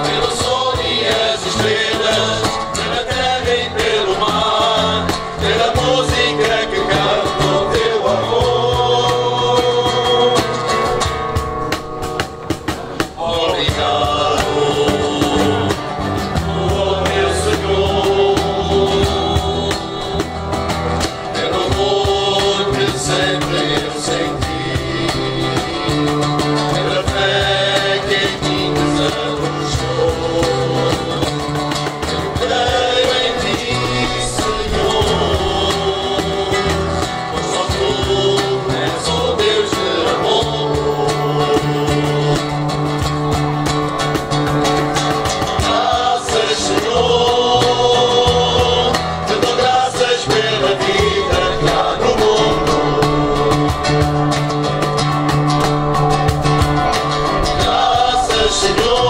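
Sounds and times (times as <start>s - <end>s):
cajon: 0.0s - 59.0s
men's choir singing: 0.0s - 59.0s
strummed acoustic guitars: 0.0s - 59.0s.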